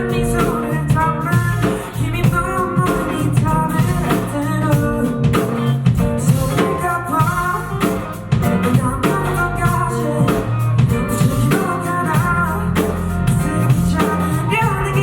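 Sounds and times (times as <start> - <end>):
bass: 0.0 - 15.0
drum kit beat: 0.0 - 15.0
guitar: 0.0 - 15.0.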